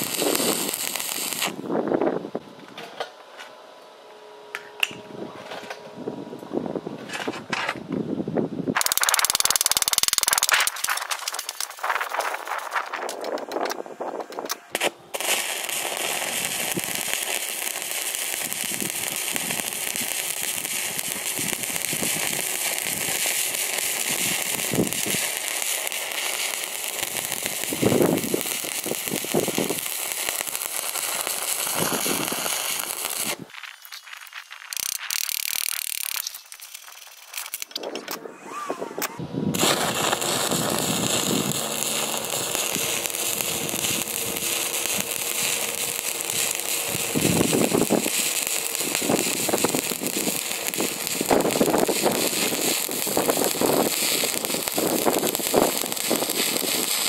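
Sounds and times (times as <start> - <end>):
welding arc crackling: 0.0 - 1.6, 8.8 - 38.1, 39.5 - 57.0.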